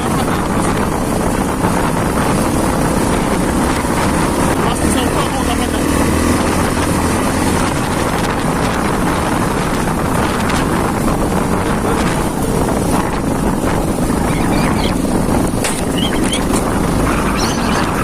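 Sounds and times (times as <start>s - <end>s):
vehicle engine running: 0.0s - 18.0s
wind buffeting microphone: 0.0s - 18.0s.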